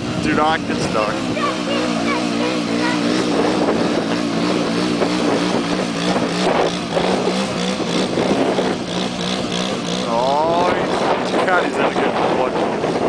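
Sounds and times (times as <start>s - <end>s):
atv engine running in mud: 0.0s - 13.0s.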